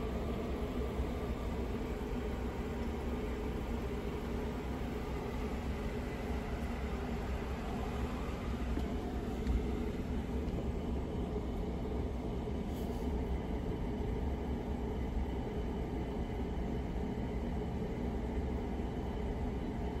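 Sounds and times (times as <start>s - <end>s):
fish tank equipment hum: 0.0s - 20.0s.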